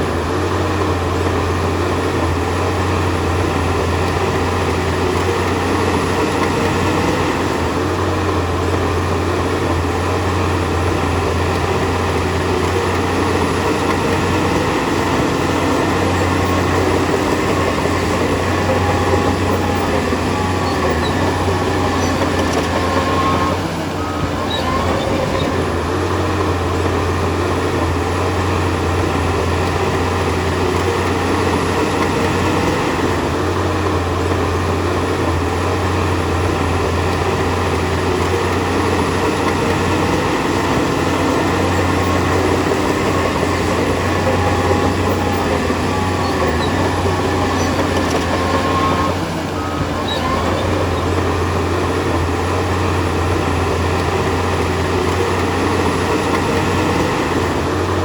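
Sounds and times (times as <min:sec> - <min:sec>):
bulldozer diesel engine droning: 0:00.0 - 0:58.0.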